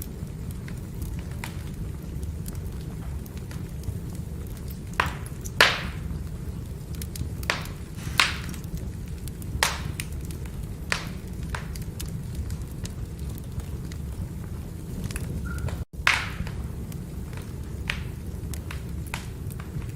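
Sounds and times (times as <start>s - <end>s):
burning logs popping: 0.0s - 19.9s
fire rumbling: 0.0s - 19.9s.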